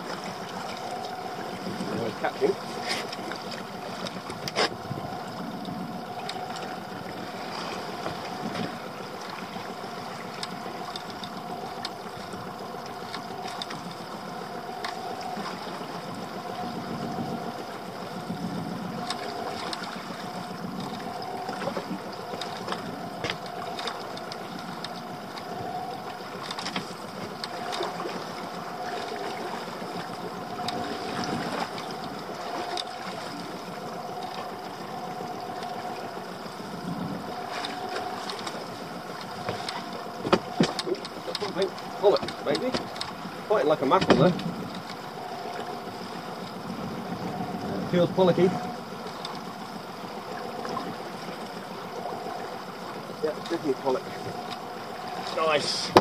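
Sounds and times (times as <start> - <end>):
steady hum: 0.0 - 56.0
water lapping at hull: 0.0 - 56.0.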